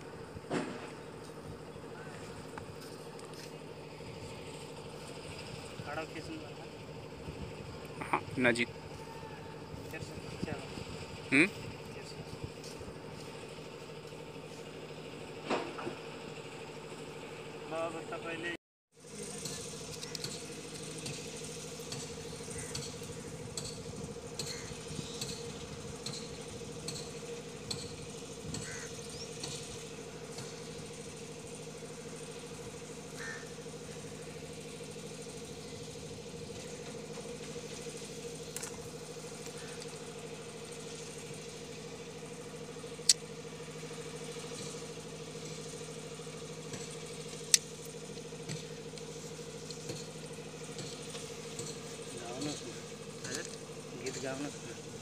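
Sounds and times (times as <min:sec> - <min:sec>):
engine hum: 0:00.0 - 0:55.0.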